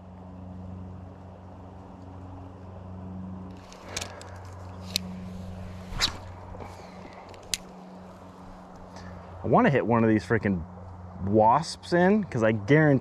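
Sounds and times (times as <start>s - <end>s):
low motor hum: 0.0s - 12.7s.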